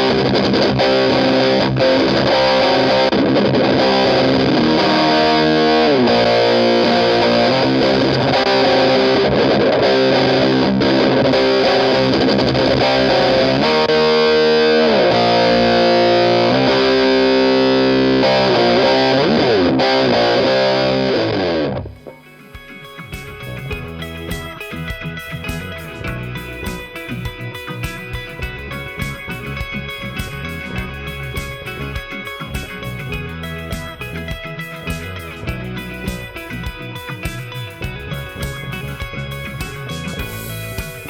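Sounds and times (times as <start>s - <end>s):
clean guitar tone: 0.0s - 41.0s
distorted electric guitar chords: 0.0s - 41.0s.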